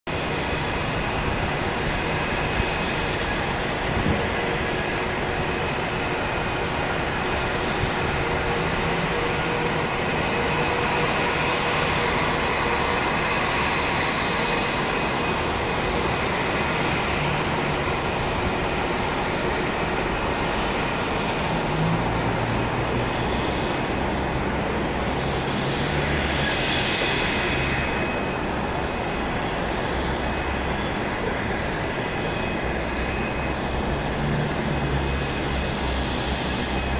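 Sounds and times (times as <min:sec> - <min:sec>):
jet airliner rumble and whine: 0:00.1 - 0:36.9.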